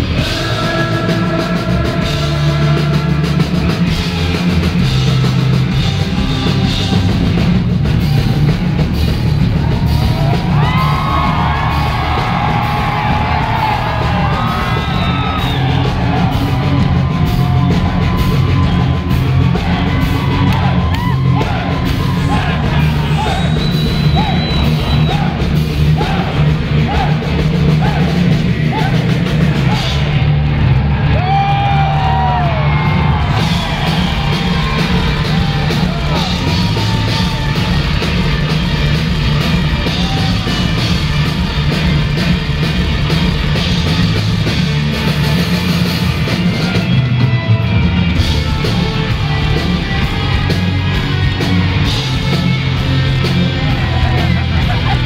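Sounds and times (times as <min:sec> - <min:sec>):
people singing and shouting: 0:00.0 - 0:42.4, 0:48.1 - 0:55.0
heavy rock band playing: 0:00.0 - 0:55.0.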